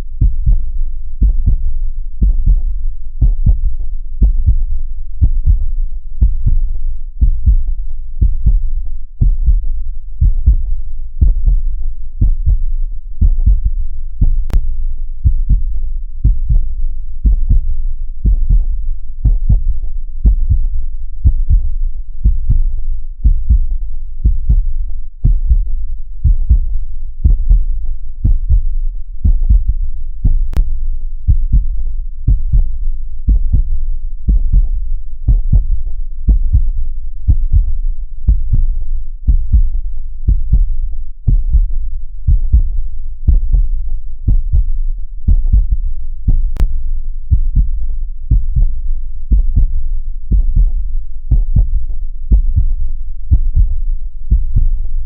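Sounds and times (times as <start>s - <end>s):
heartbeat thumps: 0.1s - 55.0s.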